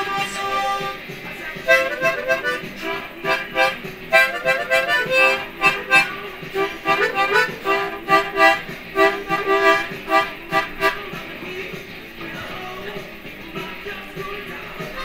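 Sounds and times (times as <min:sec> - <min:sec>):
harmonica rhythmic chords: 0:00.0 - 0:15.0.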